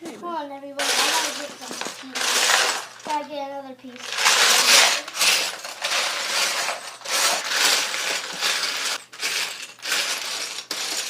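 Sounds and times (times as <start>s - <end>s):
plastic bricks clattering: 0.8s - 3.3s, 4.0s - 11.0s.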